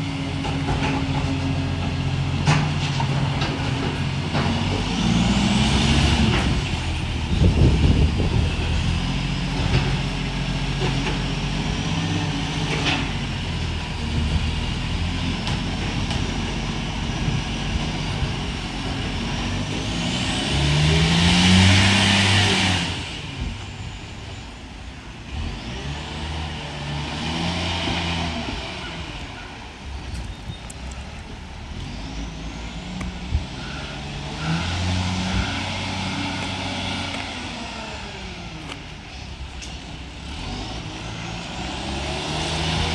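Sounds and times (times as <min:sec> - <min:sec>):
diesel truck engine revving: 0:00.0 - 0:42.9.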